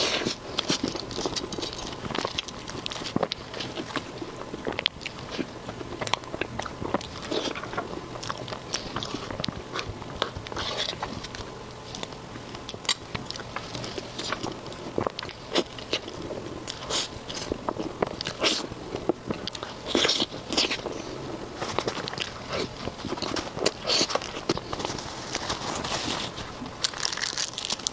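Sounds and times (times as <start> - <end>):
chewing and biting: 0.0 - 27.9.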